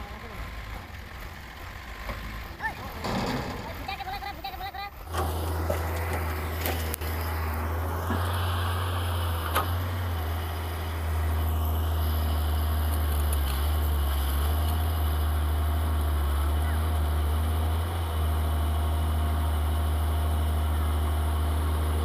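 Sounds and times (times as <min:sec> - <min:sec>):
diesel engines droning: 0:00.0 - 0:22.0.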